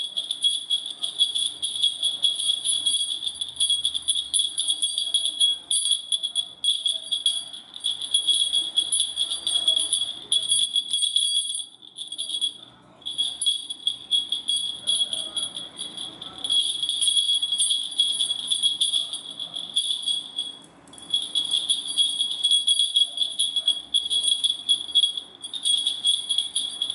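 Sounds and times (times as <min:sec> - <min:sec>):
small bell jingling: 0:00.0 - 0:26.9.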